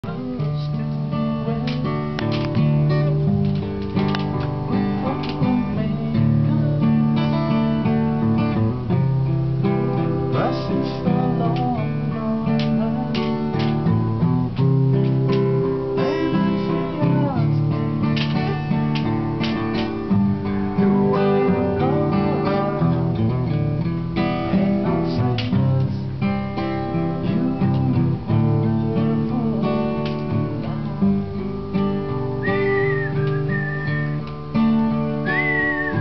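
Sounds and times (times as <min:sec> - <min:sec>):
strummed acoustic guitar: 0:00.0 - 0:36.0.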